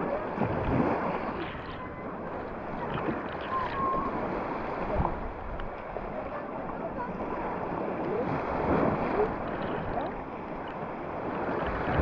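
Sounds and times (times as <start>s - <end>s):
small waves lapping on sand: 0.0s - 12.0s.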